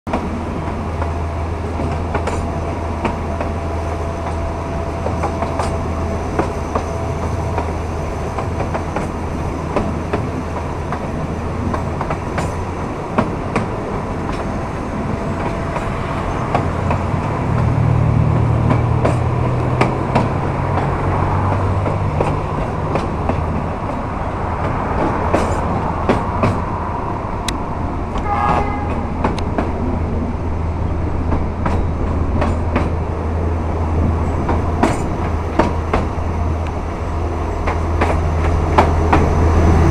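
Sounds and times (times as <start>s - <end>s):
train wheels clicking over rail joints: 0.1s - 26.8s, 27.5s - 30.0s, 31.1s - 39.9s
locomotive engine droning: 0.1s - 39.9s.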